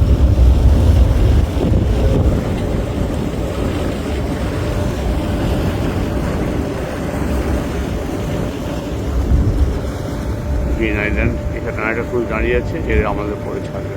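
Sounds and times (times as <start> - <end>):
water noise: 0.0 - 13.9
wind on microphone: 0.0 - 13.9.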